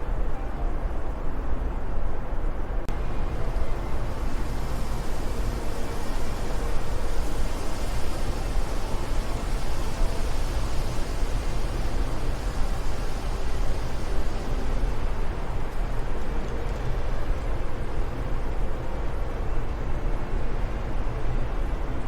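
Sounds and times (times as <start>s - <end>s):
rushing wind: 0.0s - 22.0s.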